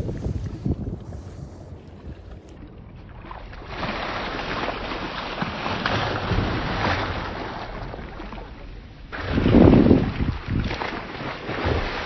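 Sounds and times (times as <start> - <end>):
water rushing along jet ski: 0.0 - 12.0.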